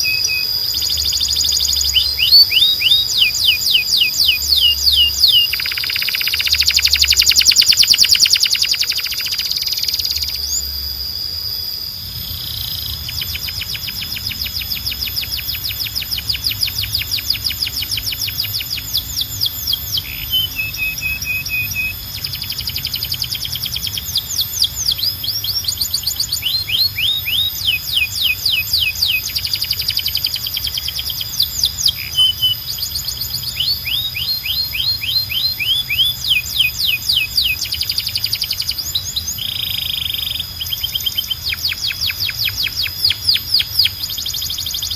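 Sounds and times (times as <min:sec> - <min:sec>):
canary chirps: 0:00.0 - 0:44.9
canary singing trills: 0:00.0 - 0:44.9
held high whistle: 0:00.0 - 0:44.9.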